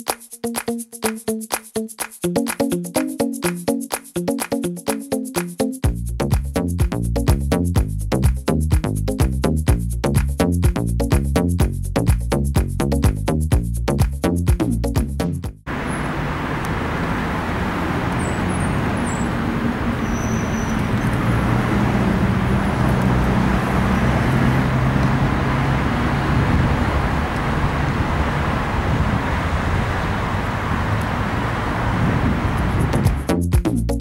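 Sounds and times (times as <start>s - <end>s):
urban traffic rumble: 5.8s - 33.9s.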